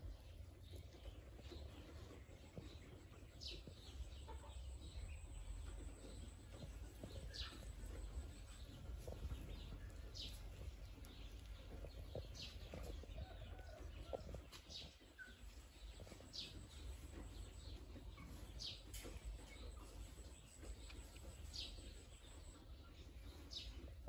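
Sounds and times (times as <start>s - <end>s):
low steady rumble: 0.0s - 24.0s
bird chirping: 0.7s - 23.8s.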